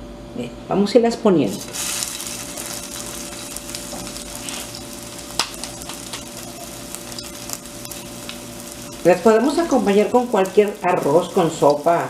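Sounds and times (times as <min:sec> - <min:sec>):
meat patty sizzling in oil: 0:01.5 - 0:12.0.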